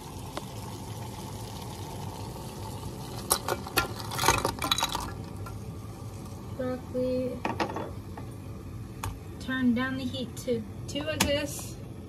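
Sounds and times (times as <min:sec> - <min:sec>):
water boiling in pot: 0:00.0 - 0:12.0.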